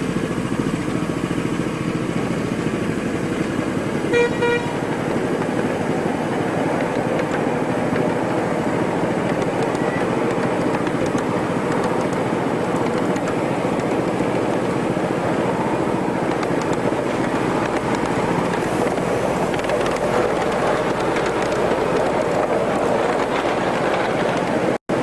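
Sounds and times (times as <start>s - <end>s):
miniature train running: 0.3s - 25.0s.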